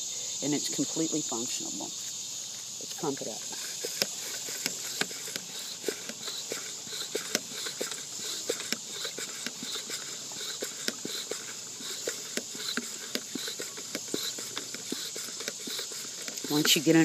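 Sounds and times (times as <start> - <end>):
insects chirping: 0.0 - 17.0
hand pump plastic clicks: 2.8 - 17.0.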